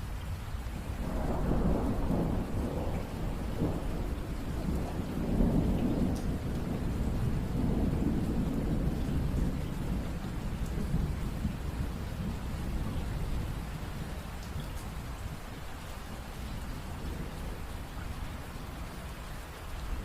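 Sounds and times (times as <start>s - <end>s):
steady rain: 0.0s - 20.0s
rolling thunder: 0.8s - 19.0s.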